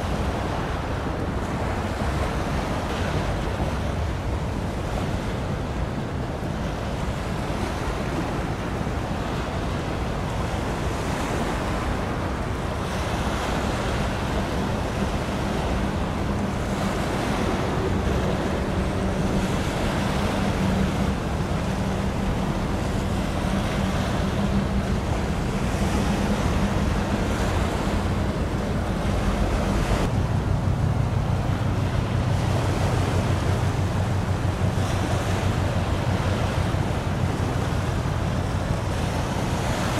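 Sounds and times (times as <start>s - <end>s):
sea water washing: 0.0s - 39.9s
ship engine drone: 0.0s - 39.9s.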